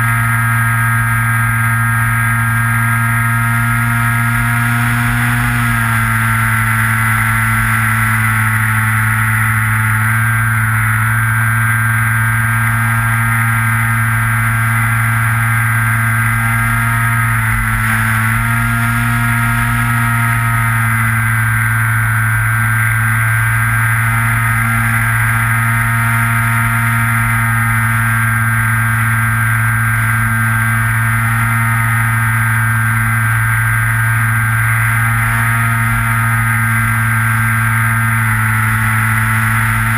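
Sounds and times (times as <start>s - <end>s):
model plane motor drone: 0.0s - 39.9s.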